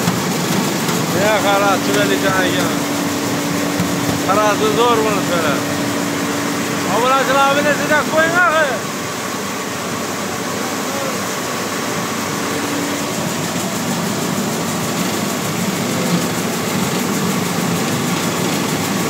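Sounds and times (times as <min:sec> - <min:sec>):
mill machinery running: 0:00.0 - 0:19.0.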